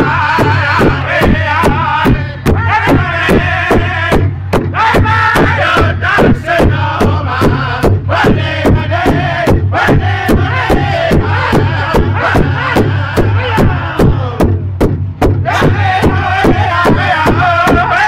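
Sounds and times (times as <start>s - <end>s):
men chanting together: 0.0s - 14.6s, 15.4s - 18.0s
large drum beating: 0.0s - 18.0s.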